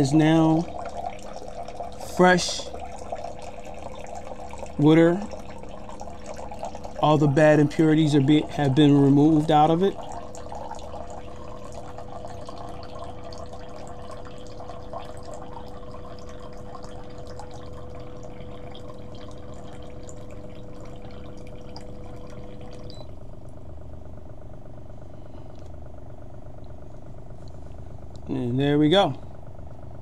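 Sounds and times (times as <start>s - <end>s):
water purifier humming: 0.0s - 30.0s.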